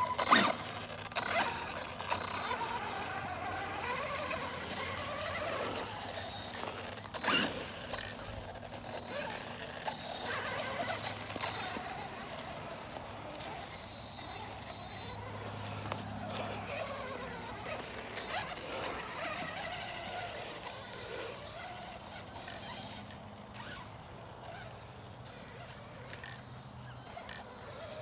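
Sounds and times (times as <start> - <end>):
rc truck motor whining: 0.0 - 28.0.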